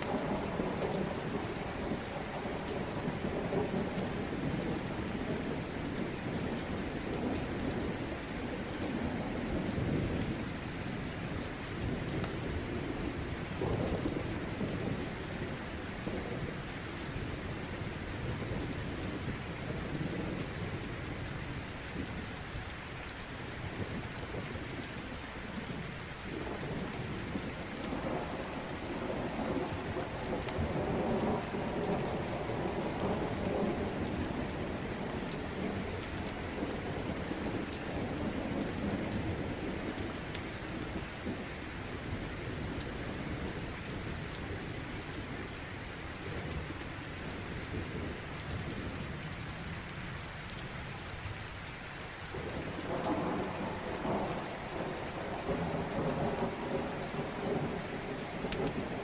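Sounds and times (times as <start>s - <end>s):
rolling rumble of thunder: 0.0s - 22.8s, 23.5s - 49.4s, 52.3s - 59.0s
steady rain: 0.0s - 59.0s.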